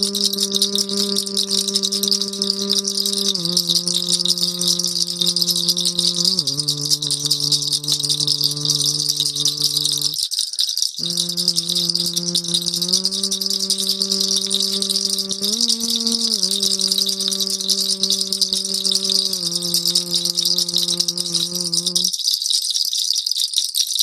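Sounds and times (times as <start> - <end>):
low sung or hummed tone: 0.0 - 10.2, 11.0 - 22.1
rattle shaken fast: 0.0 - 24.0.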